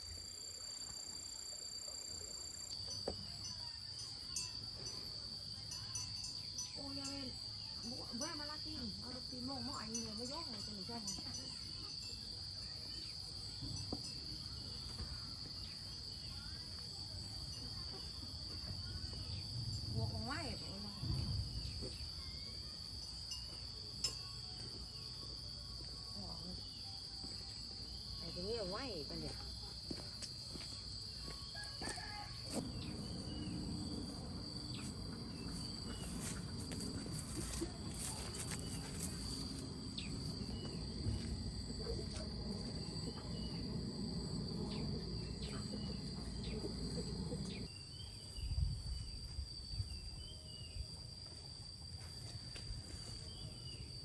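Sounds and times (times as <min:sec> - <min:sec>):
higher insect trill: 0:00.0 - 0:54.0
insects trilling: 0:00.0 - 0:54.0.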